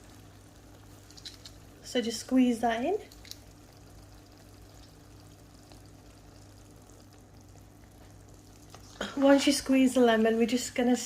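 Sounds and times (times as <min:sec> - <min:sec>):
food sizzling in a pan: 0:00.0 - 0:11.0
low steady hum: 0:00.0 - 0:11.0.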